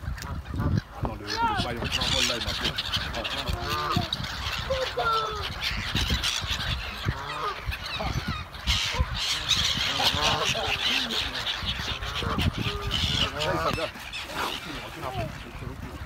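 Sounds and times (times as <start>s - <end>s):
geese honking: 0.0s - 16.0s
gulls calling: 0.0s - 16.0s.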